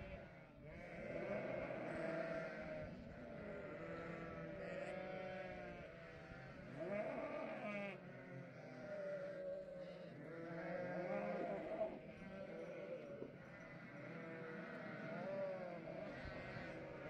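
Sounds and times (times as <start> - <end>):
sheep and lambs bleating: 0.0 - 17.0.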